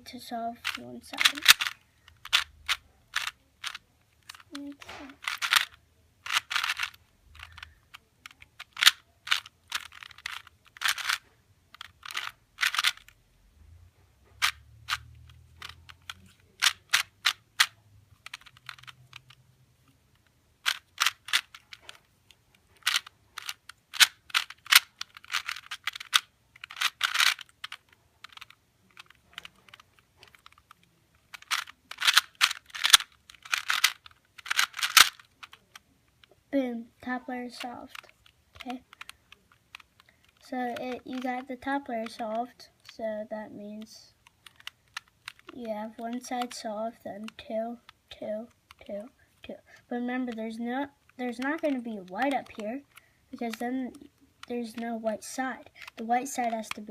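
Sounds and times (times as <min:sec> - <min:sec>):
puzzle cube clacking: 0:00.0 - 0:13.3, 0:14.2 - 0:56.9.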